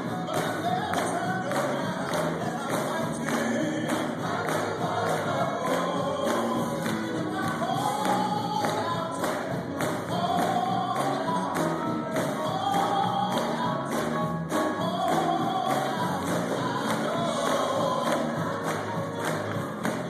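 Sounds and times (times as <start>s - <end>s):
group singing: 0.0s - 20.0s
percussion beat: 0.0s - 20.0s.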